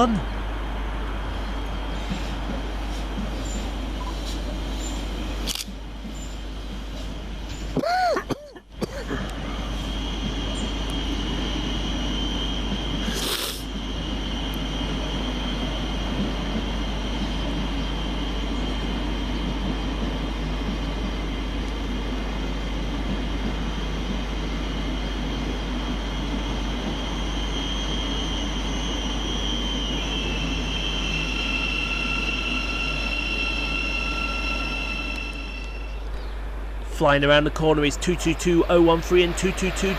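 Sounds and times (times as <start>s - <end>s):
high whine: 0.0s - 39.9s
train rumble: 0.0s - 39.9s.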